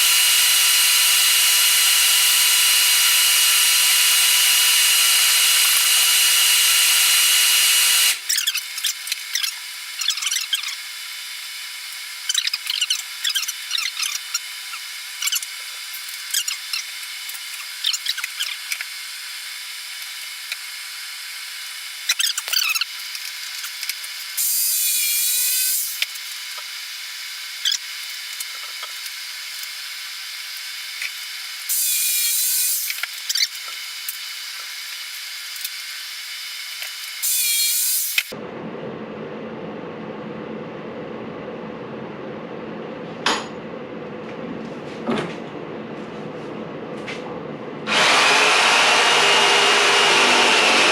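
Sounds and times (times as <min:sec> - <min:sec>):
power tool cutting wood: 0:00.0 - 0:38.4, 0:47.8 - 0:50.9.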